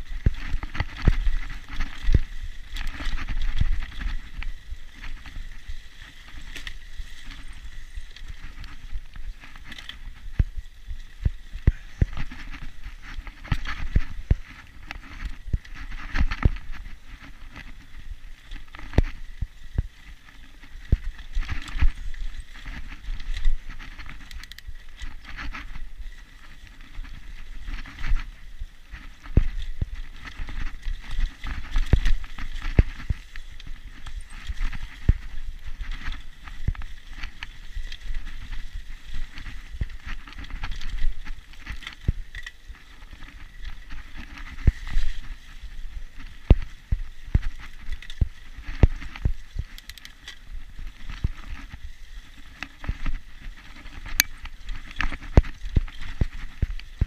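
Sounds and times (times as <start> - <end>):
bike knocks and rattles: 0.0 - 57.0
bike tyre noise on dirt: 0.0 - 57.0.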